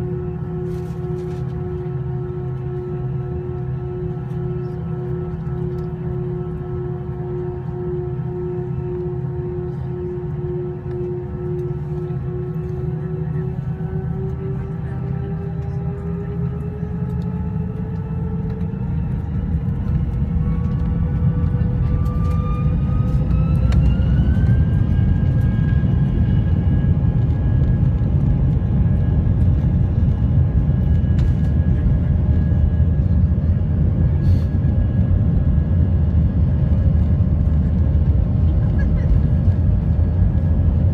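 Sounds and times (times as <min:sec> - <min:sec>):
aircraft cabin rumble: 0:00.0 - 0:40.9
jet engine whine: 0:00.0 - 0:40.9.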